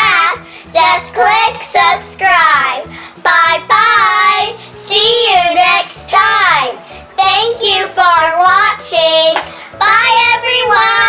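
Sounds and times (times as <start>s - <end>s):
girls singing: 0.0s - 11.0s.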